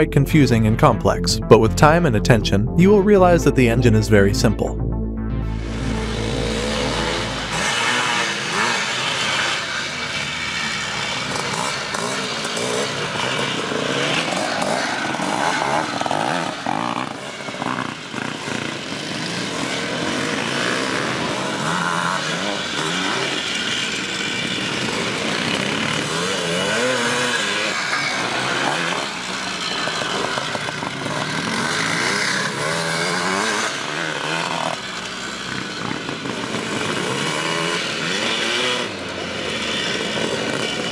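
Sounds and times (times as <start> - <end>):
motorcycle engines revving: 6.0 - 40.9.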